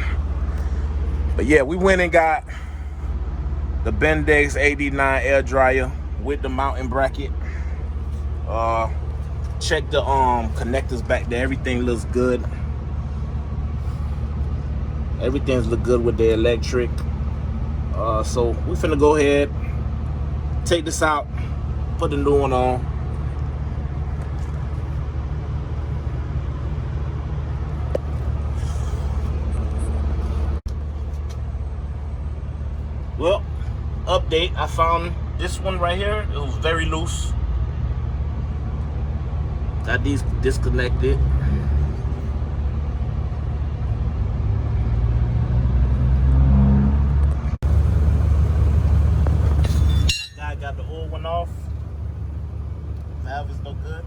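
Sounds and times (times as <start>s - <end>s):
diesel truck engine idling: 0.0s - 44.8s, 47.4s - 54.0s.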